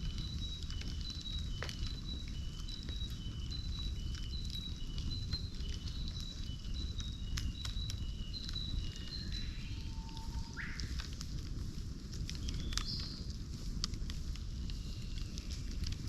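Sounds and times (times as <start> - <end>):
campfire flames crackling: 0.0 - 16.0.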